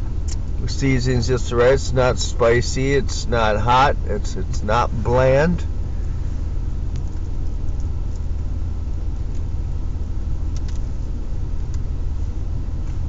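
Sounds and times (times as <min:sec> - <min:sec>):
car idling rumble: 0:00.0 - 0:13.0.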